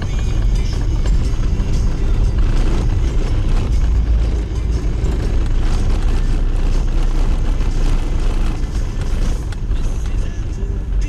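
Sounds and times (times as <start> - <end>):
tyres rumbling over cobbles: 0.0 - 11.0.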